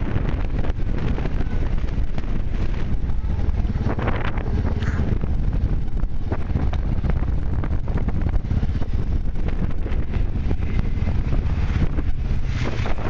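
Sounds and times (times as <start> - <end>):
atv engine running: 0.0 - 13.0
wind buffeting microphone: 0.0 - 13.0.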